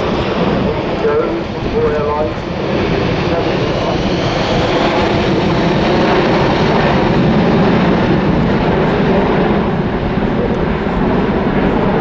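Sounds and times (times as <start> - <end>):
jet airliner engines roaring: 0.0 - 12.0.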